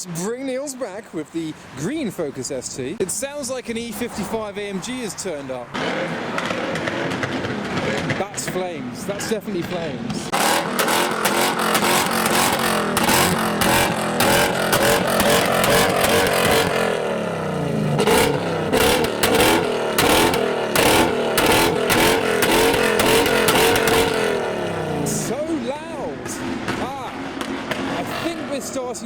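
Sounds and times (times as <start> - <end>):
exhaust pops and bangs: 5.2 - 29.0
car engine revving hard: 5.6 - 29.0.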